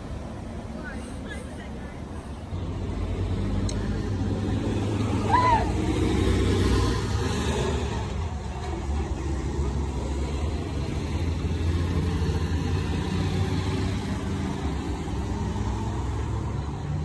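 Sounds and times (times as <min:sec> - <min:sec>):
street background noise: 0:00.0 - 0:17.0
vehicle engine rumbling: 0:00.0 - 0:17.0.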